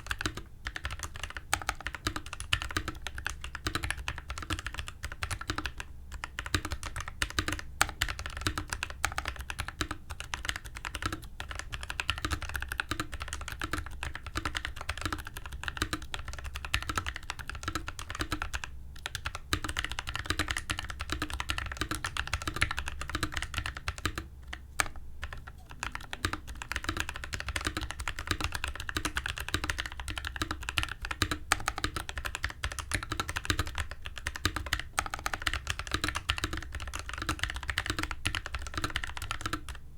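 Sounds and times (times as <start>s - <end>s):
mechanical keyboard typing: 0.0s - 39.8s.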